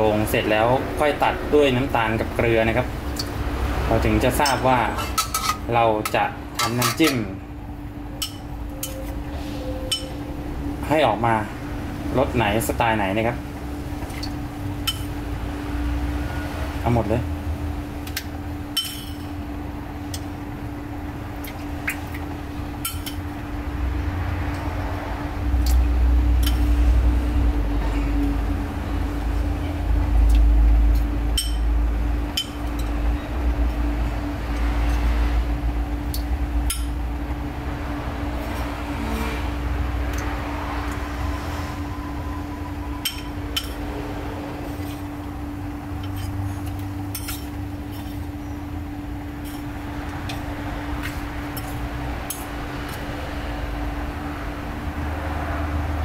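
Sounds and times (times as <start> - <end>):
steady hum and low rumble: 0.0 - 56.0.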